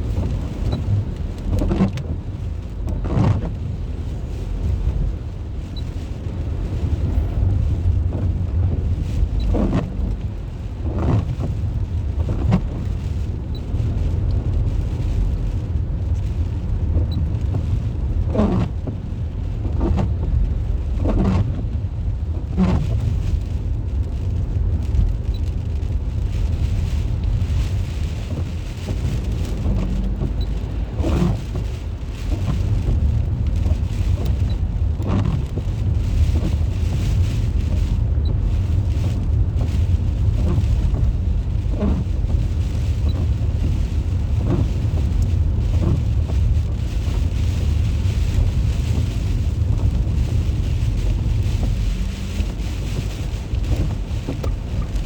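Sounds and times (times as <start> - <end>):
rain falling: 0.0 - 55.0
wind rumble on microphone: 0.0 - 55.0.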